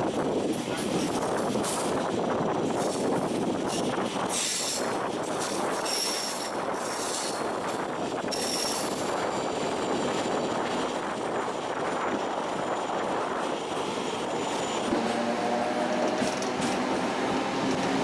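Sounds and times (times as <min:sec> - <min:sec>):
electric train rumbling on rails: 0:00.0 - 0:18.0.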